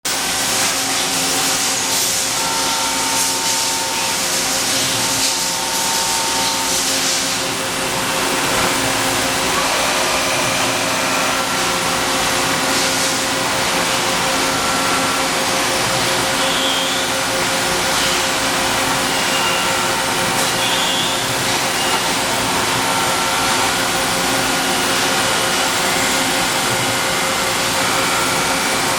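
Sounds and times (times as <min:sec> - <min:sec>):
machine hum with whine: 0:00.1 - 0:28.9.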